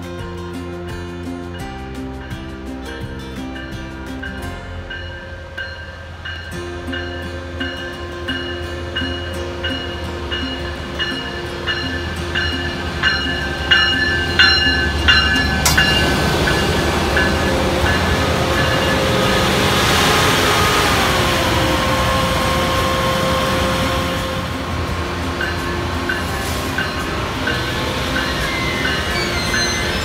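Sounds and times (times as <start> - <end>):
train engine and wheels passing: 0.0 - 30.0
locomotive bell ringing: 1.5 - 30.0.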